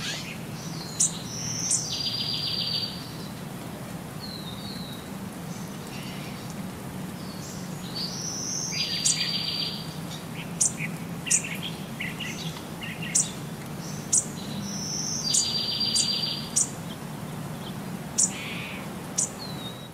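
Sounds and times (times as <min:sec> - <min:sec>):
bird-like chirps and twittering: 0:00.0 - 0:03.3, 0:07.2 - 0:19.9.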